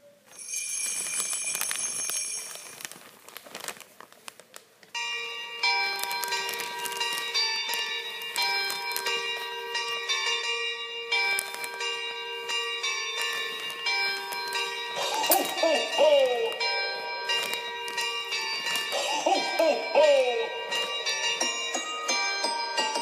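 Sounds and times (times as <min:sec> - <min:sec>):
bell-like chimes playing a tune: 0:00.3 - 0:02.8, 0:05.0 - 0:23.0.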